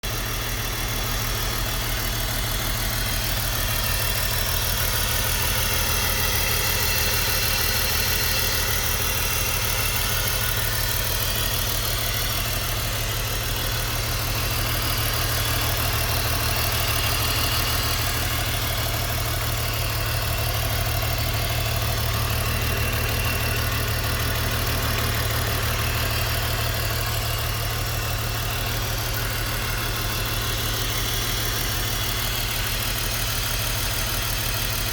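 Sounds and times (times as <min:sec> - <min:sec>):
car engine idling rough: 0:00.0 - 0:34.9.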